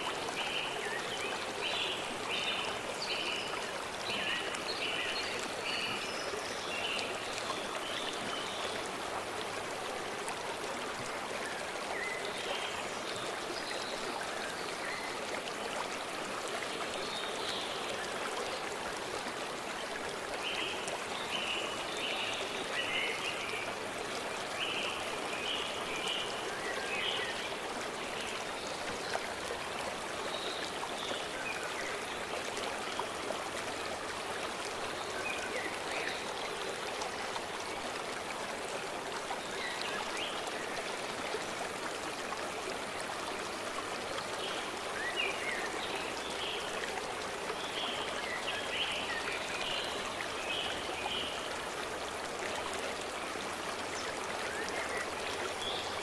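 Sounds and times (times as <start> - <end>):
brook flowing: 0.0 - 56.0.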